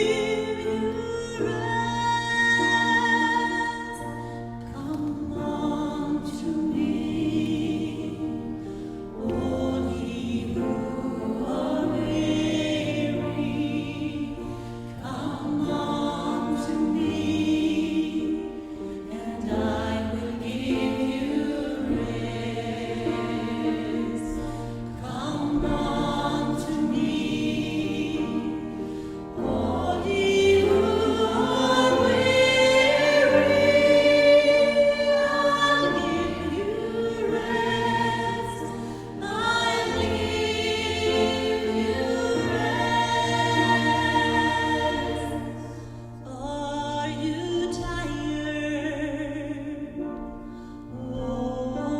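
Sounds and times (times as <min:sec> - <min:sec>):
gospel choir singing: 0:00.0 - 0:51.9.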